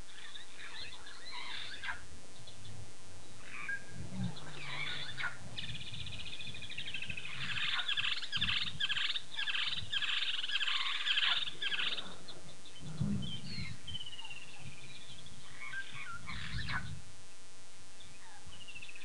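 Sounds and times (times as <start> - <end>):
birds chattering and chirping: 0.0 - 17.1, 17.9 - 19.0
faint low rumble: 0.0 - 19.0.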